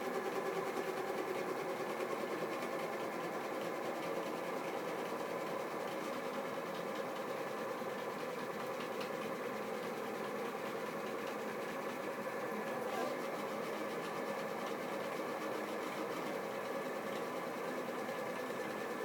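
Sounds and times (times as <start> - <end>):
printer motors buzzing whine: 0.0 - 19.0.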